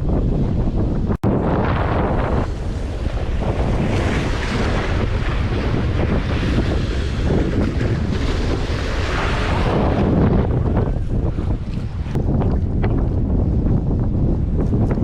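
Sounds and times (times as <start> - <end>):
wind buffeting microphone: 0.0 - 15.0
waves washing: 0.6 - 13.3.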